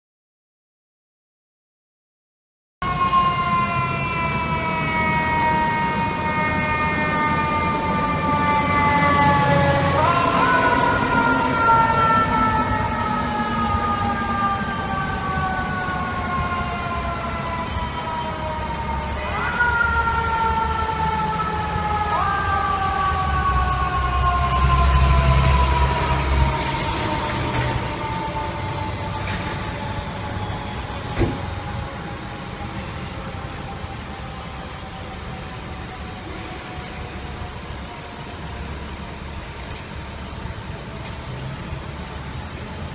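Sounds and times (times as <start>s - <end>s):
engines and street traffic rumble: 2.8s - 42.9s
mechanical siren wailing: 2.8s - 42.9s.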